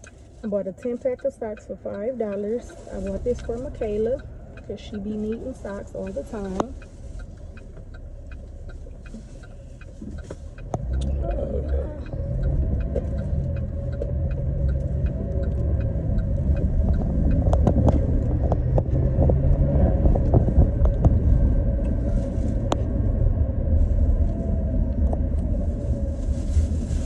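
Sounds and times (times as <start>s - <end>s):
light regular ticking: 0.0s - 22.0s
car road rumble inside cabin: 0.0s - 27.0s.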